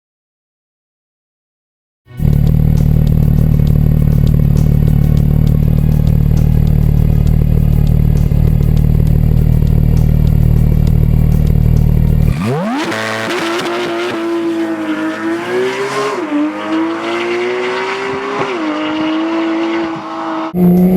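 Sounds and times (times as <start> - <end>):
car engine idling and revving: 2.2 - 20.9.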